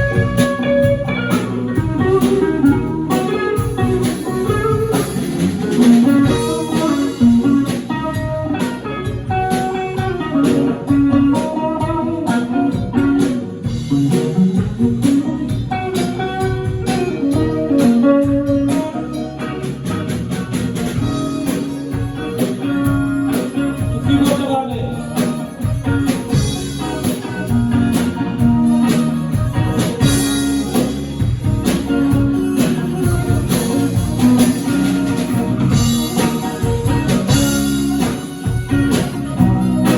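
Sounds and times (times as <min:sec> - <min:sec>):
drum kit: 0:00.0 - 0:39.9
guitar: 0:00.0 - 0:39.9.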